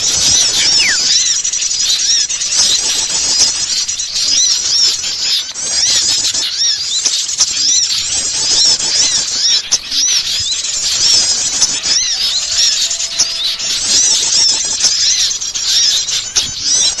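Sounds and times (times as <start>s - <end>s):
songbirds chirping and twittering: 0.0s - 17.0s.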